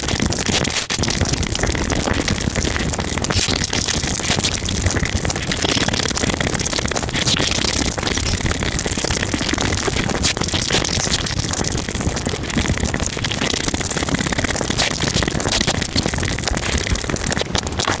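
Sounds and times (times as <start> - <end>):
sticky mouth clicks: 0.0 - 18.0
wet chewing and slurping: 0.4 - 18.0.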